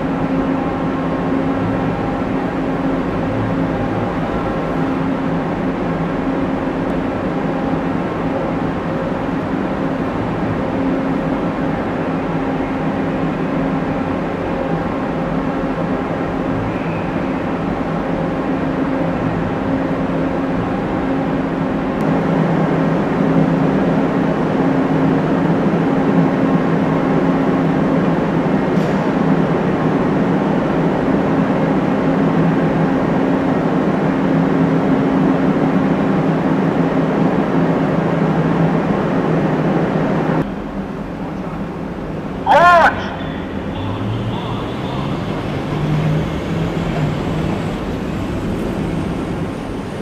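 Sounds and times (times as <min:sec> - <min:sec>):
heavy vehicle engines droning: 0:00.0 - 0:50.0.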